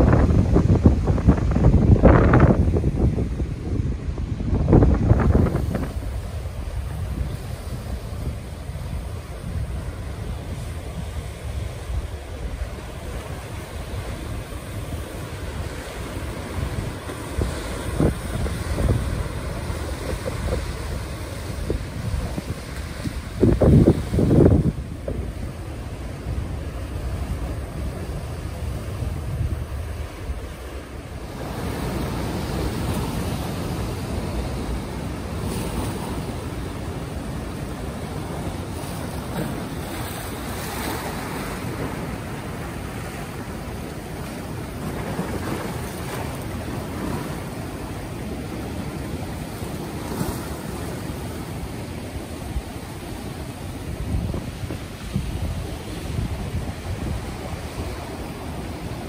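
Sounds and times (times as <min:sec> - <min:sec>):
surf breaking over rocks: 0:00.0 - 0:59.0
wind buffeting microphone: 0:00.0 - 0:59.0.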